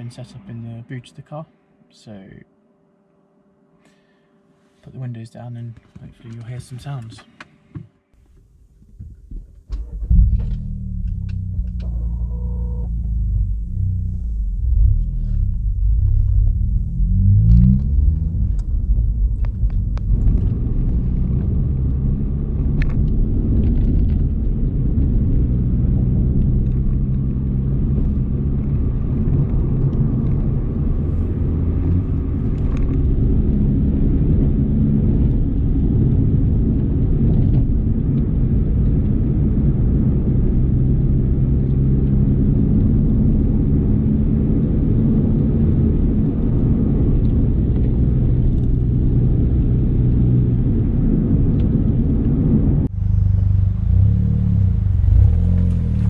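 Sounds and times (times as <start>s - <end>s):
car exhaust droning: 8.2s - 56.0s.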